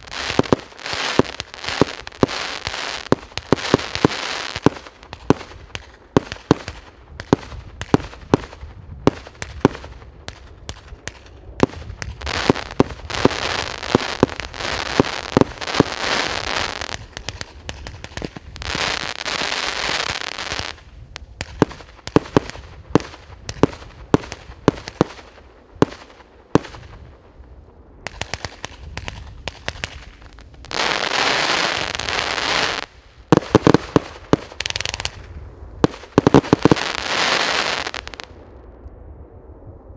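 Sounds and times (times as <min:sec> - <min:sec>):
firework bangs: 0:00.0 - 0:38.4
firework crackling: 0:00.0 - 0:38.4.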